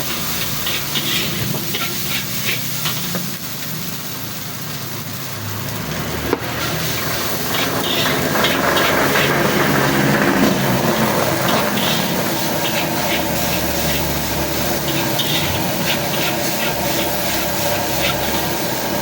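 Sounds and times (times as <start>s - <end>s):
metal spatula scraping pan: 0.0s - 3.2s, 6.6s - 19.0s
food sizzling in a wok: 0.0s - 19.0s.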